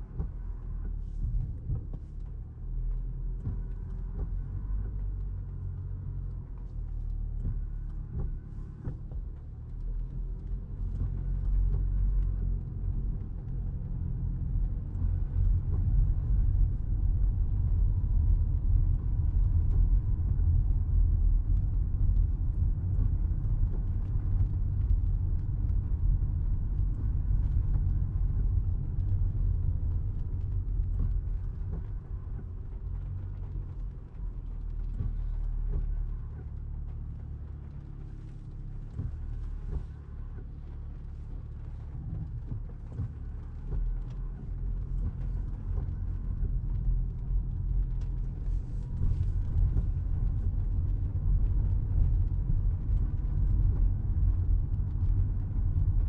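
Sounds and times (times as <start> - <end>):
road and tyre noise: 0.0 - 56.0.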